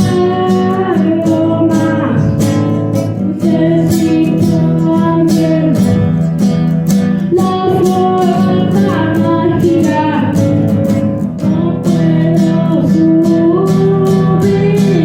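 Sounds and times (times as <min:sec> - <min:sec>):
person singing: 0:00.0 - 0:15.0
strummed acoustic guitar: 0:00.0 - 0:15.0.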